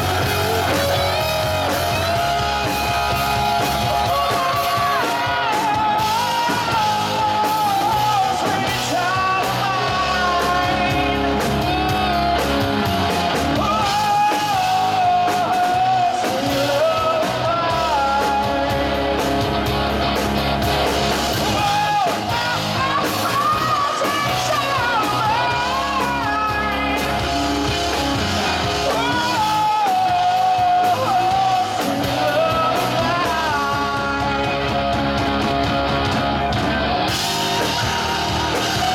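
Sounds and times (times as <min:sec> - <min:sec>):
man singing lead: 0:00.0 - 0:19.8, 0:21.0 - 0:38.9
drum kit: 0:00.0 - 0:38.9
electric bass: 0:00.0 - 0:38.9
electric guitars: 0:00.0 - 0:38.9.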